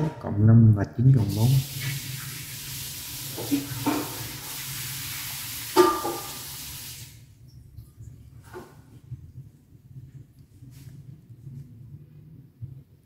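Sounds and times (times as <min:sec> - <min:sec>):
background hiss: 0:00.7 - 0:13.0.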